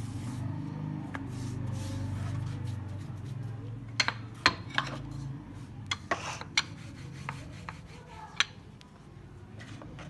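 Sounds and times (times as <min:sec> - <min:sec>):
rolling pin rolling dough: 0:00.0 - 0:08.7.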